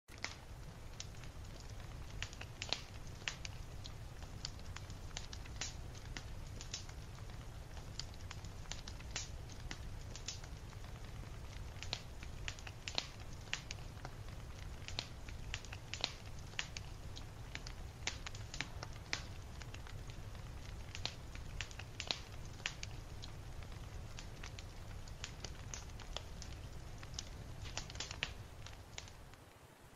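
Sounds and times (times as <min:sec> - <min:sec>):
sharp crackling pops: 0:00.1 - 0:29.9.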